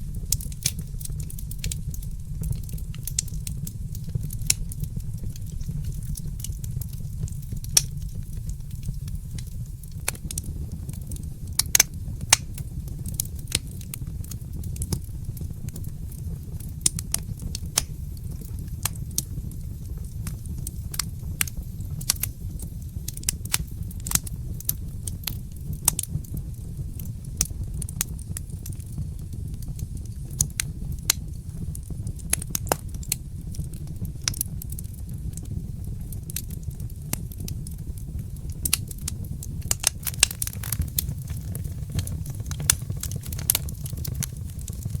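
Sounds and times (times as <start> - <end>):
steady low rumble: 0.0 - 45.0
wood fire crackling: 0.0 - 45.0.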